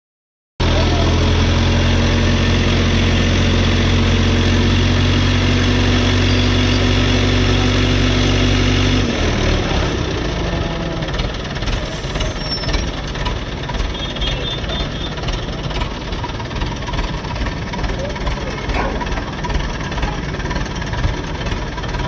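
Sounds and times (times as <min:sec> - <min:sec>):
diesel crane engine running: 0:00.6 - 0:22.0.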